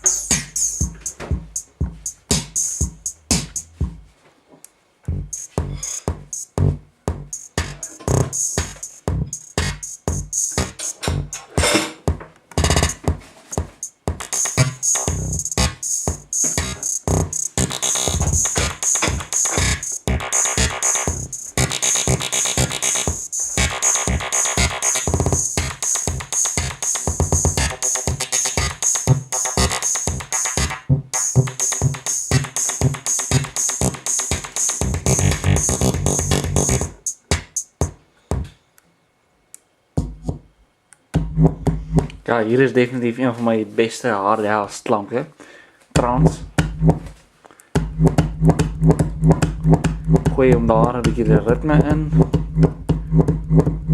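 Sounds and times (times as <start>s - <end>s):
drum-machine beat with synth tones: 0.0s - 4.1s, 5.1s - 38.5s, 40.0s - 40.5s, 41.2s - 42.2s, 46.0s - 47.2s, 47.8s - 53.9s.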